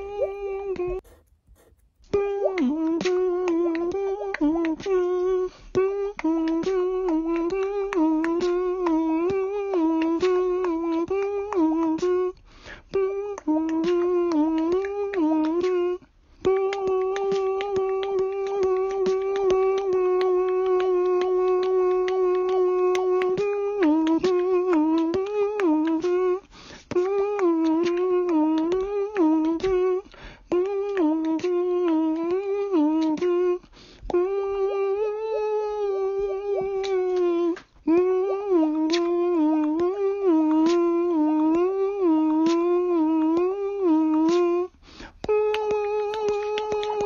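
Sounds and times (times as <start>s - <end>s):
person humming: 0.0s - 47.0s.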